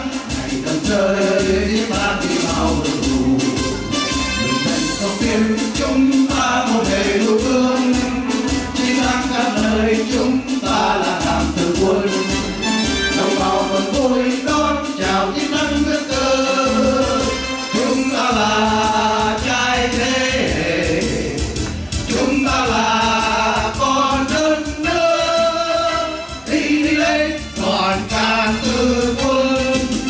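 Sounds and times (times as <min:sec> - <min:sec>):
backing music: 0:00.0 - 0:30.0
voices singing: 0:00.0 - 0:30.0.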